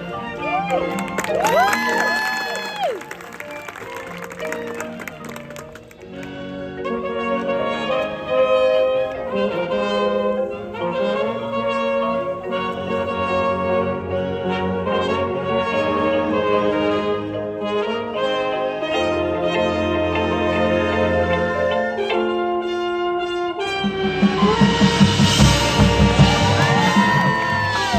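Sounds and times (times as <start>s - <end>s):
marching band playing: 0.0s - 27.9s
trumpets and trombones chords: 0.0s - 27.9s.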